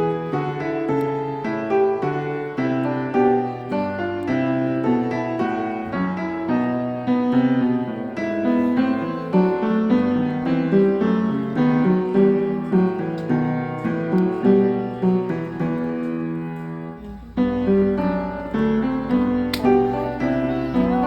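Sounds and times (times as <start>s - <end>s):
background piano music: 0.0s - 21.0s.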